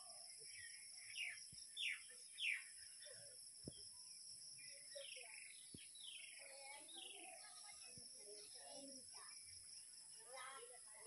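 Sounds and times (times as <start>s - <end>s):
bird chirps: 0.0s - 10.7s.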